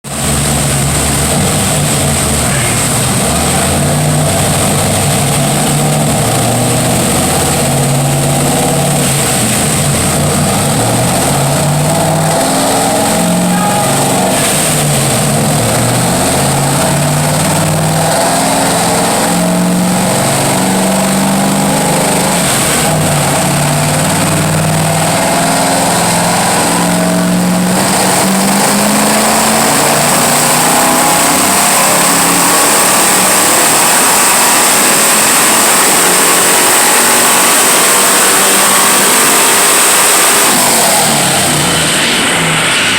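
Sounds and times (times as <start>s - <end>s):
engine revving on a dyno: 0.0s - 42.9s.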